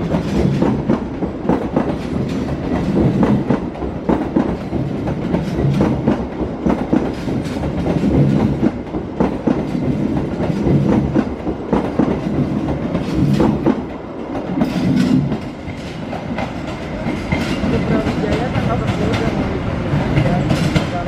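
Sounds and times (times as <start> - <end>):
low train rumble: 0.0 - 21.0
train wheels knocking over rail joints: 0.0 - 21.0.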